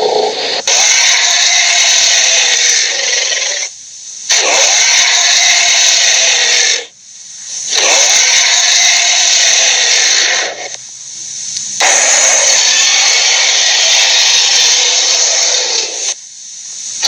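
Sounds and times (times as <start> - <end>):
creature raspy hisses: 0.0 - 3.7, 4.3 - 6.9, 7.5 - 10.8, 11.8 - 16.2.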